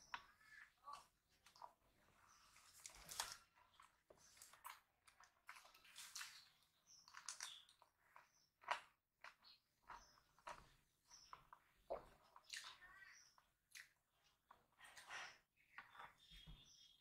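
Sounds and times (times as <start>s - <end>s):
chewing and mouth clicks: 2.5s - 16.2s.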